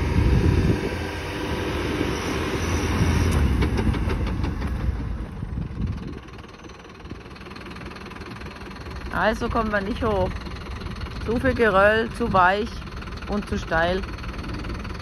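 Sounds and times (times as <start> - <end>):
truck diesel engine labouring: 0.0 - 15.0.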